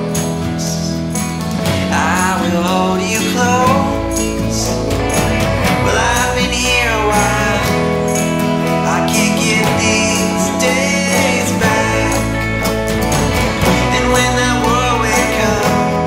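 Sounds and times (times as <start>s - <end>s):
country song with guitar: 0.0s - 16.0s
person singing: 0.0s - 16.0s.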